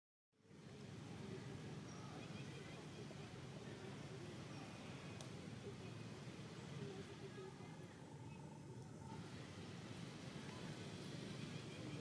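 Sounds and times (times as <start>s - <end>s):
faint outdoor background noise: 0.3s - 12.0s.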